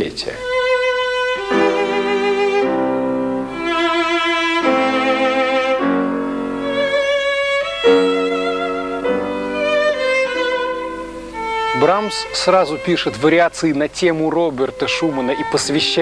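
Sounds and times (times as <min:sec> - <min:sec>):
violin playing slow melody: 0:00.3 - 0:16.0.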